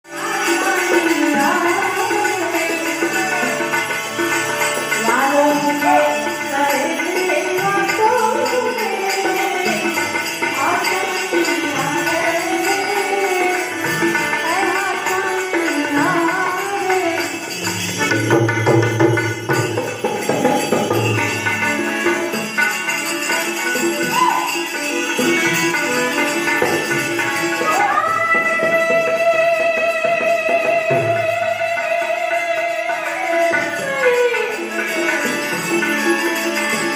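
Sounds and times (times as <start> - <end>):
hand drum: 0.0 - 36.9
jingling tambourine: 0.1 - 36.9.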